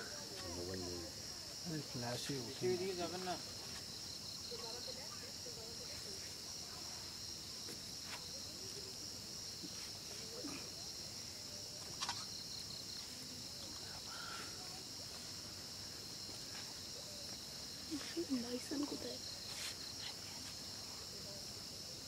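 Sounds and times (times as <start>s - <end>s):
night insects chirping: 0.0s - 22.0s.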